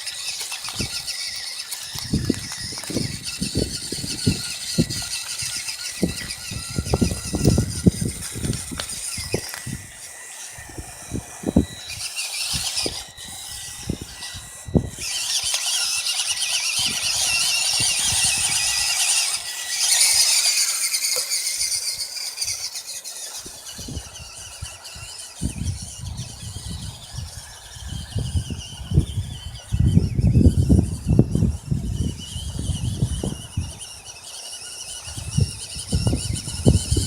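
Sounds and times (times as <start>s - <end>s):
toy truck electric motor whining: 0.0s - 37.0s.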